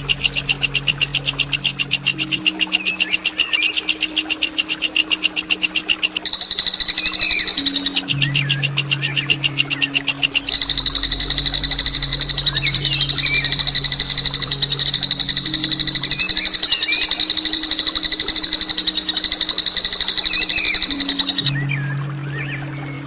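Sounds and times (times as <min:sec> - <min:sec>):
songbird buzzy rolling trill: 0:00.0 - 0:23.0.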